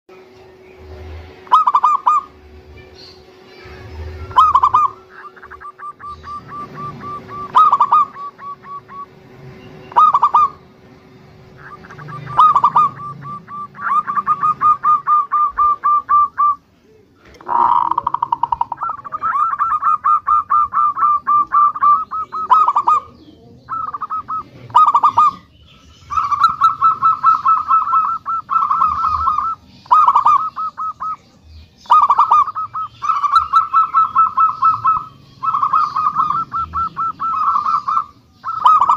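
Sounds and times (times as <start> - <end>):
dove cooing: 1.4 - 2.4, 3.6 - 10.6, 11.5 - 38.9.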